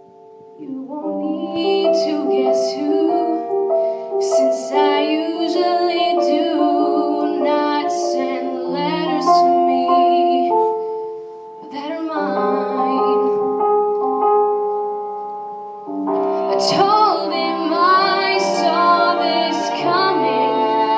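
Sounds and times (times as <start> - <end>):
piano accompaniment: 0.0 - 20.9
woman singing slow song: 0.6 - 10.9, 11.6 - 14.6, 16.5 - 20.9.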